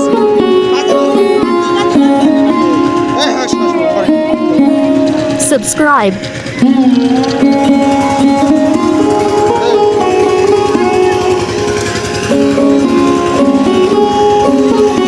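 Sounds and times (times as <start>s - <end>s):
instrumental music: 0.0s - 15.0s
plucked string melody: 0.0s - 15.0s.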